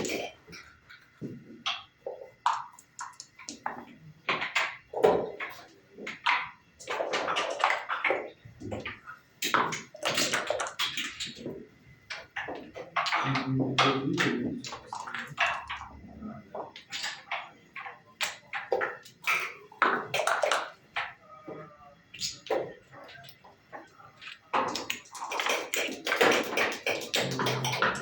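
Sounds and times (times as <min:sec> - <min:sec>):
checkers clacking on board: 0:01.7 - 0:28.0.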